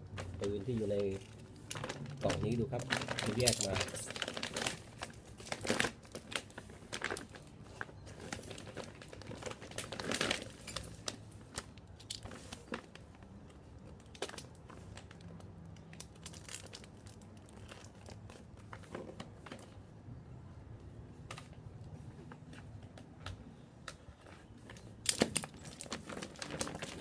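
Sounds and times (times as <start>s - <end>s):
packaging crinkling and rustling: 0.0s - 19.8s, 23.9s - 27.0s.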